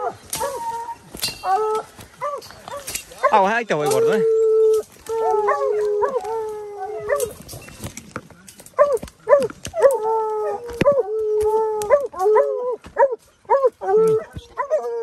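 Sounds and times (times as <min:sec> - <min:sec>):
dogs yelping: 0:00.0 - 0:07.8, 0:08.7 - 0:15.0
hounds baying: 0:00.0 - 0:07.8, 0:08.6 - 0:15.0.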